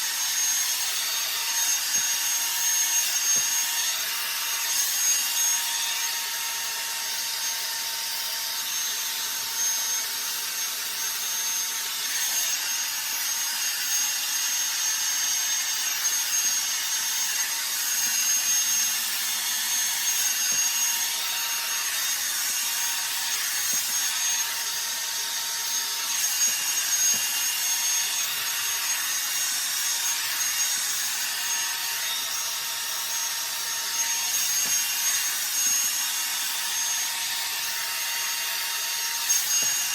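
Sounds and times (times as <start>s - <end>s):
hair dryer motor whine: 0.0s - 39.9s.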